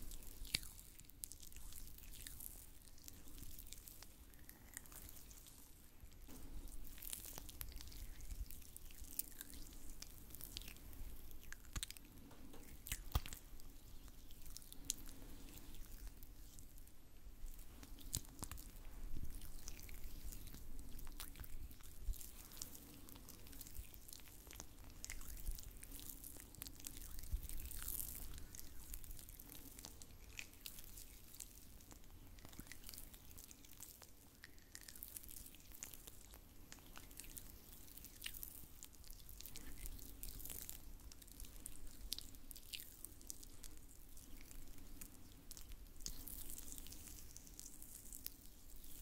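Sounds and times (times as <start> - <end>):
soft wet clicks and crackles: 0.0 - 49.0.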